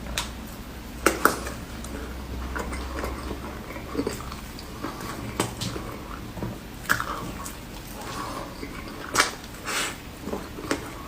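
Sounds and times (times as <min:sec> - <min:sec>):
chewing and biting food: 0:01.1 - 0:11.0.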